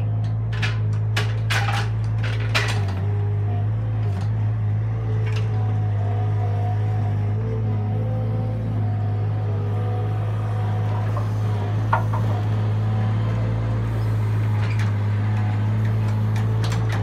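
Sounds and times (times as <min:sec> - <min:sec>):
loader engine running: 0:00.0 - 0:17.0.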